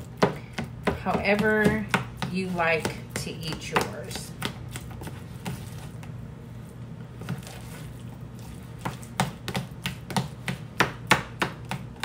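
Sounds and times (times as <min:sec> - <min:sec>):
utensil mashing avocado: 0:00.0 - 0:12.0.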